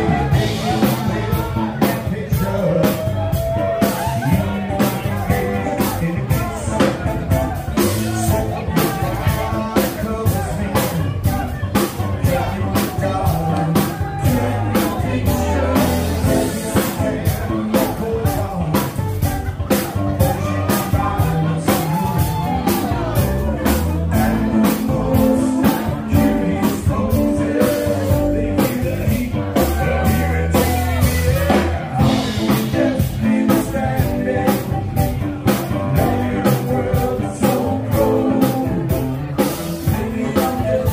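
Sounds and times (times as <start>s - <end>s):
person singing: 0.0s - 40.9s
rock music: 0.0s - 40.9s
steady drum beat: 0.0s - 40.9s.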